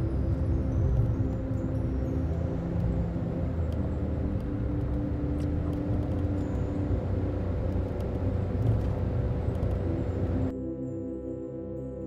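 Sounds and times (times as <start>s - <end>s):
car engine and tyre rumble: 0.0s - 10.6s.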